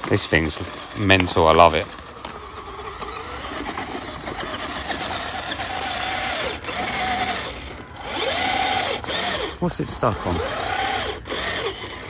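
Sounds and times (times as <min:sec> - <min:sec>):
rc truck motor whining: 0:00.0 - 0:12.0.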